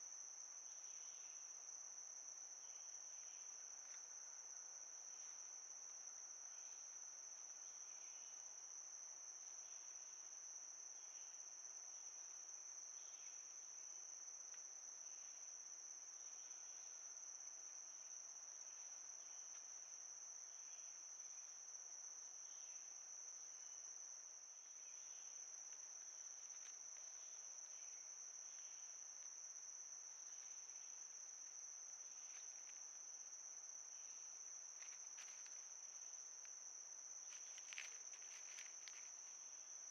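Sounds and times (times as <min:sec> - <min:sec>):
crickets chirping chorus: 0:00.0 - 0:39.9.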